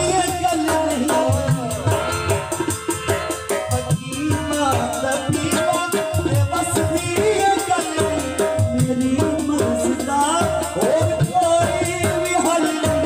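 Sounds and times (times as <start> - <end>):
harmonium held notes: 0.0 - 13.0
tabla playing quick rhythm: 0.0 - 13.0.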